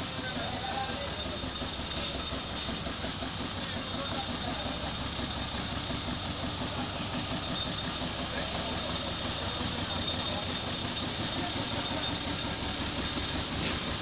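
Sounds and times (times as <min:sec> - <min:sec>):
engine running with low throb: 0:00.0 - 0:14.0.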